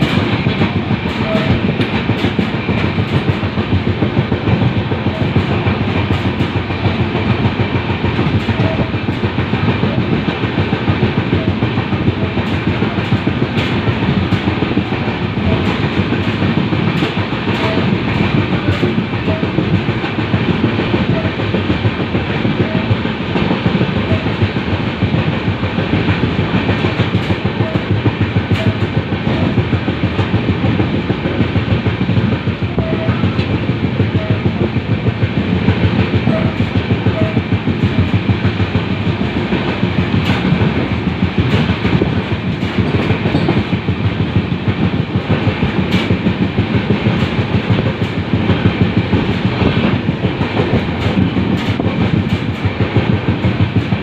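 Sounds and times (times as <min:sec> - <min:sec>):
train coaches rumbling on rails: 0:00.0 - 0:54.0.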